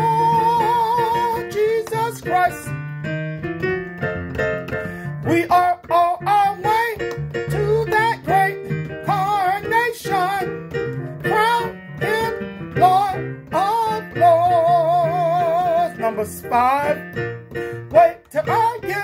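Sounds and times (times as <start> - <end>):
person singing: 0.0 - 2.8, 5.2 - 19.0.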